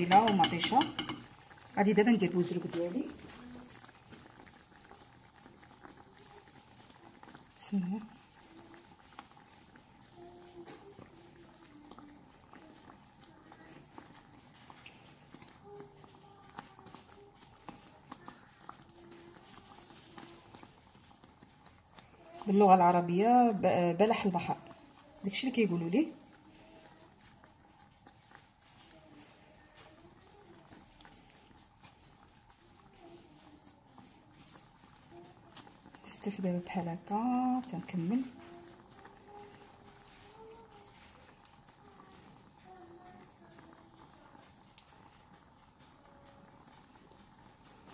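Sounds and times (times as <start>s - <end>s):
hand squishing mussels in marinade: 0.0s - 47.9s
sauce sizzling and crackling: 0.0s - 47.9s.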